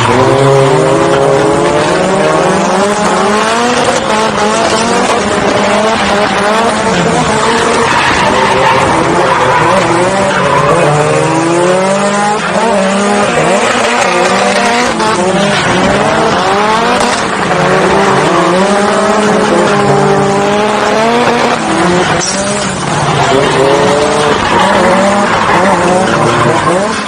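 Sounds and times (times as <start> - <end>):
car engine revving: 0.0 - 27.0
tyres squealing and skidding: 0.0 - 27.0.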